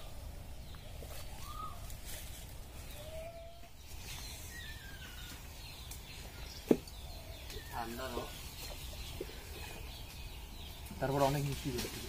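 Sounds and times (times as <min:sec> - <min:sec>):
bird chirps: 0:00.0 - 0:12.0
low outdoor rumble: 0:00.0 - 0:12.0.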